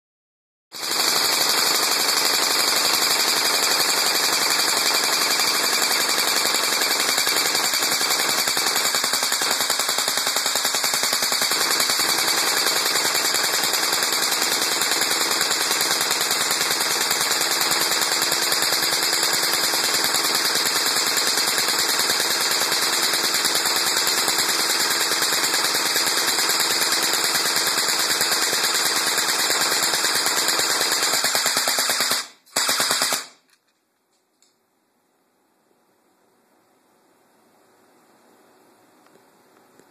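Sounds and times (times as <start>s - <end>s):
airsoft gun firing full-auto: 0.8s - 33.5s.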